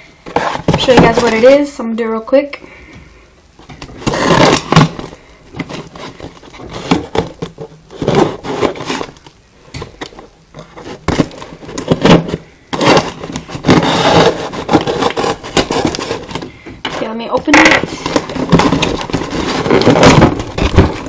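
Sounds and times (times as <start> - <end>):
cardboard scraping and rubbing: 0.2 - 1.6, 3.8 - 9.3, 10.5 - 21.0.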